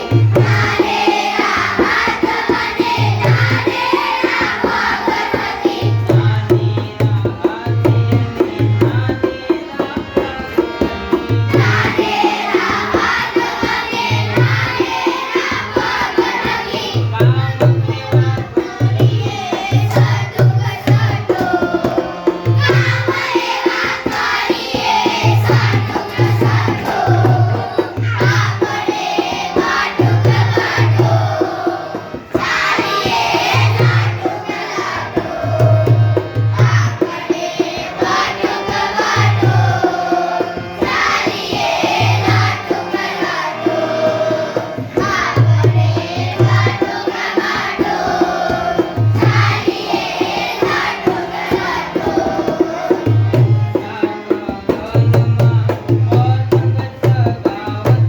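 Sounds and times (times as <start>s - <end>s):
steady drum beat: 0.0s - 9.2s, 10.7s - 58.0s
instrumental passage: 0.0s - 56.2s
children's song singing: 0.0s - 58.0s.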